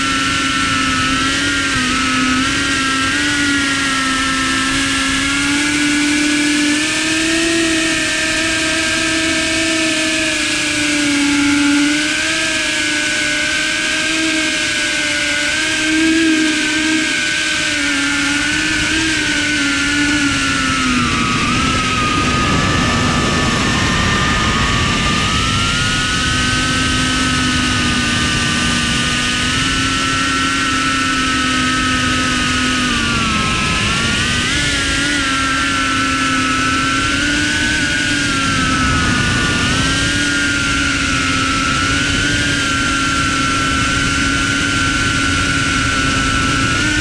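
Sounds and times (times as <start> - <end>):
drone motors whining: 0.0 - 47.0.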